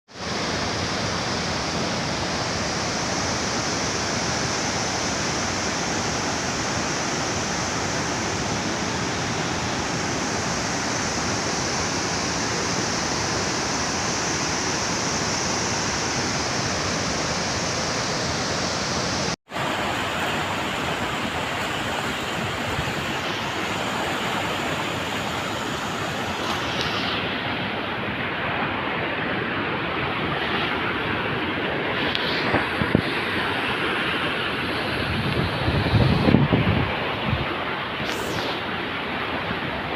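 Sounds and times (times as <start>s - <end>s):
water roaring through dam gates: 0.1s - 39.9s.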